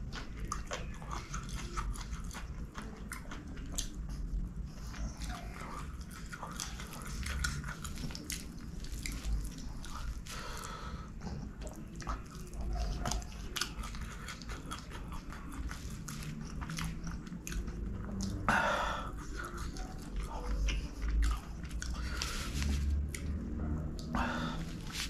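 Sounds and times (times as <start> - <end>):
wet chewing and mouth clicks: 0.0 - 25.0.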